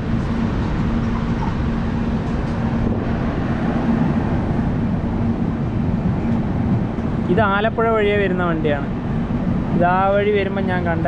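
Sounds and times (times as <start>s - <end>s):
constant low hum: 0.0s - 11.0s
train rolling rumble: 0.0s - 11.0s.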